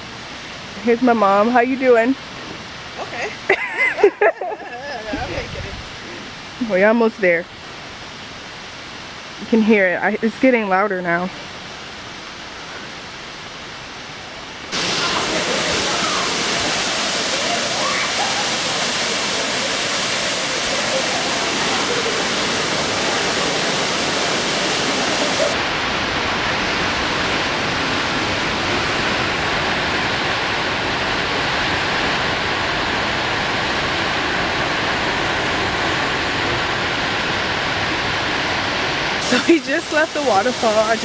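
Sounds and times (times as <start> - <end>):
waterfall rushing: 0.0 - 10.0, 11.3 - 41.0.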